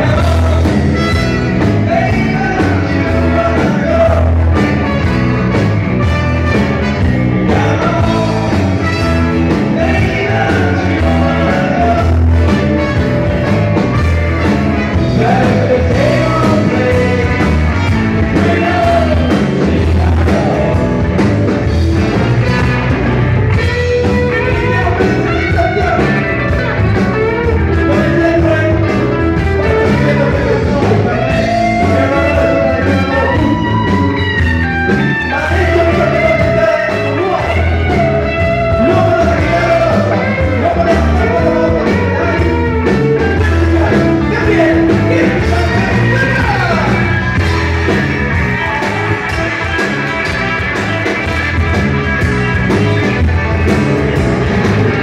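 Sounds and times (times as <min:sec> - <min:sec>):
live blues band playing: 0:00.0 - 0:55.0.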